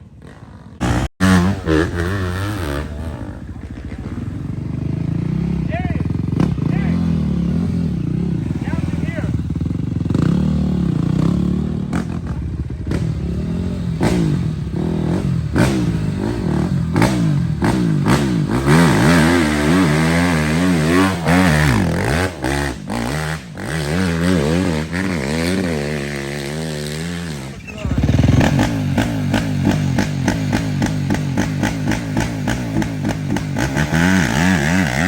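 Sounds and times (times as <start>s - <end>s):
dirt bike engine revving: 0.2s - 35.0s.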